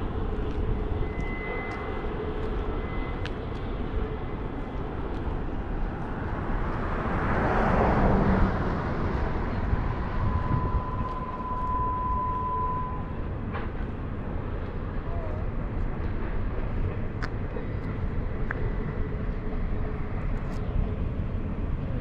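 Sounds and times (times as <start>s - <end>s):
distant freight train rumble: 0.0s - 22.0s.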